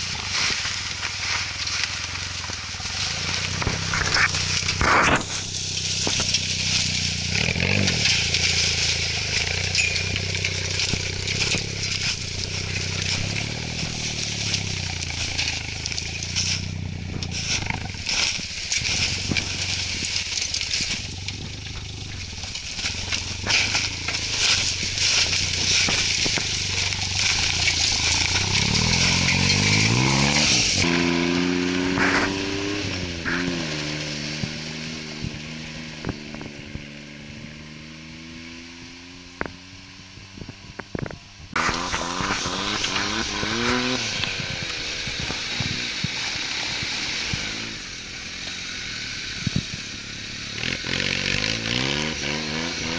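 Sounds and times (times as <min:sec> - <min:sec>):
car engine running: 0:00.0 - 0:52.9
tyres crunching on snow: 0:00.0 - 0:52.9.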